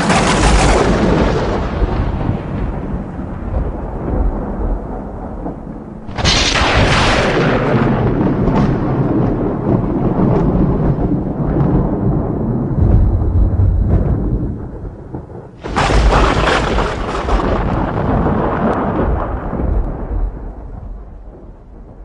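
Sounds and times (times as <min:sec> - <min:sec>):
lightning crack: 0:00.0 - 0:22.0
thunder rumble: 0:00.0 - 0:22.0.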